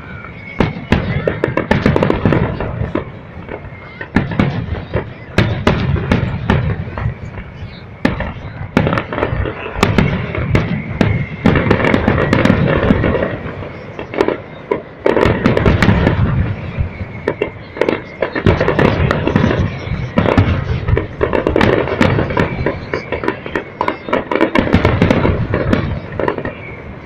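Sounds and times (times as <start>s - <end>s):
fireworks bangs and crackles: 0.0s - 27.0s
low rumble of explosions: 0.0s - 27.0s.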